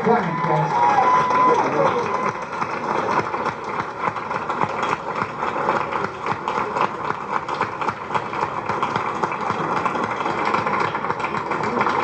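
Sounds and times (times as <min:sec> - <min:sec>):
audience applause: 0:00.0 - 0:12.0.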